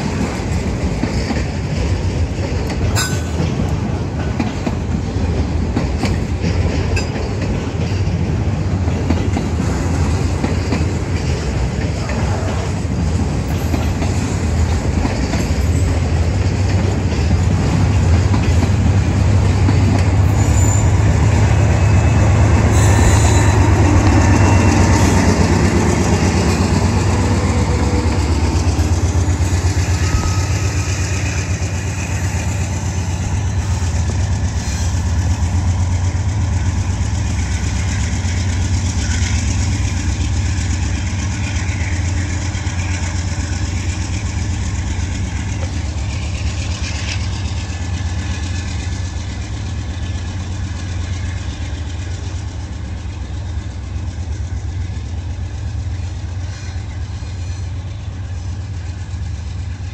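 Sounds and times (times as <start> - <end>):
diesel locomotive engine running: 0.0 - 59.9
rail cars rolling on track: 0.0 - 59.9.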